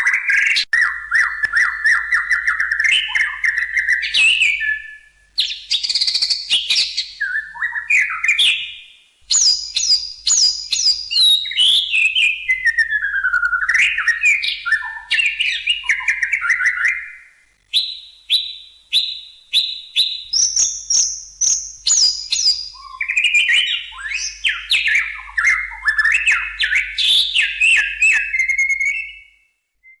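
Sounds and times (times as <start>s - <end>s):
songbird singing whistled phrases: 0.0s - 30.0s.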